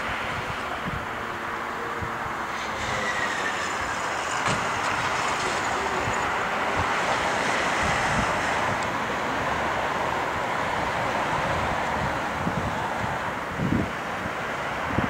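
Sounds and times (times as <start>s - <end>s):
jet engines running: 0.0s - 14.8s.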